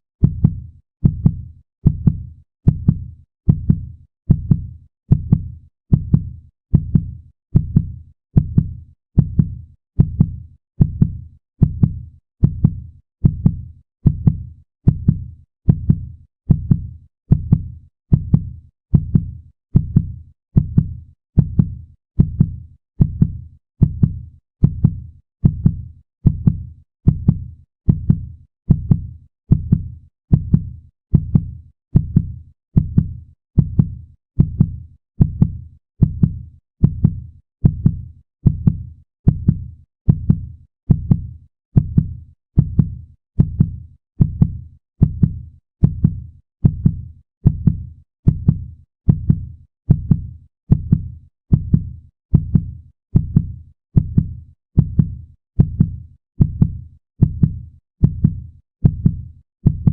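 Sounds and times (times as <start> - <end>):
heartbeat thumps: 0.2 - 59.9.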